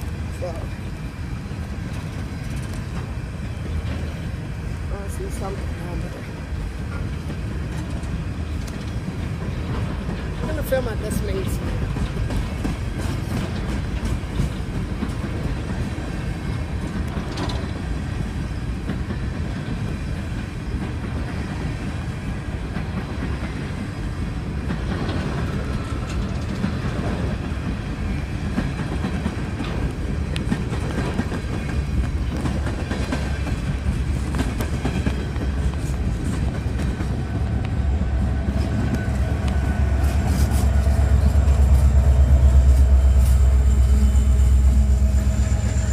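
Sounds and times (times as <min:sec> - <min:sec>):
train wheels clicking over rail joints: 0:00.0 - 0:44.3
low train rumble: 0:00.0 - 0:45.9.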